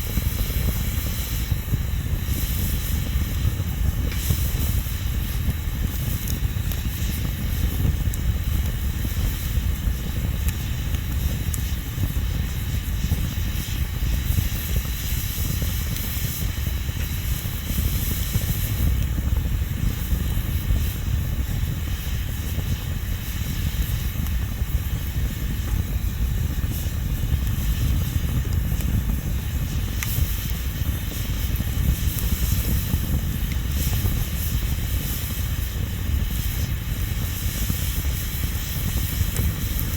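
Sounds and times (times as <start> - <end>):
bonfire flames rumbling and hissing: 0.0 - 39.9
fire crackles: 0.0 - 39.9.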